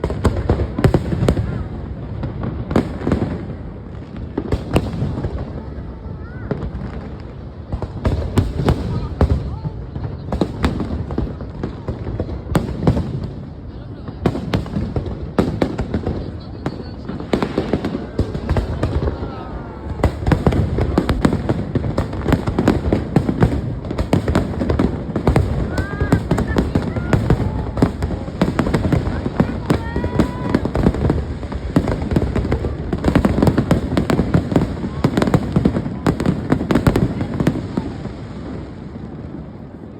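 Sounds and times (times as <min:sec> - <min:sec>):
fireworks sharp bangs: 0:00.0 - 0:39.8
distant explosions rumble: 0:00.0 - 0:39.9.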